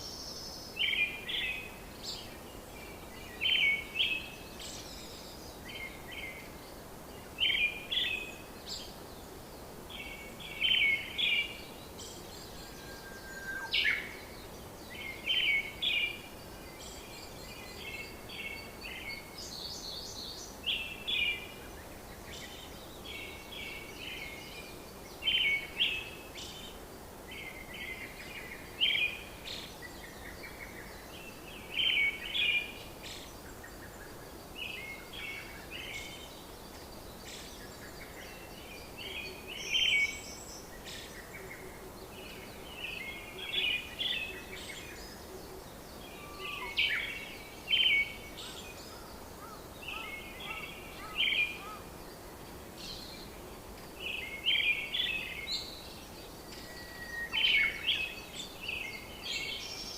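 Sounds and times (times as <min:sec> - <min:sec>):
small birds chirping: 0:00.0 - 0:59.9
steady background hiss: 0:00.0 - 0:59.9.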